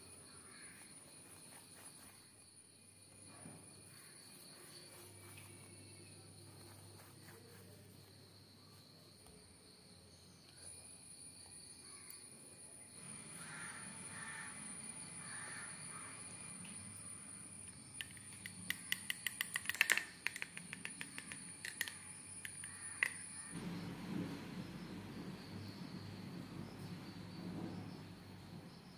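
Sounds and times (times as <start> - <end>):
high thin insect drone: 0.0 - 12.3, 12.9 - 28.9.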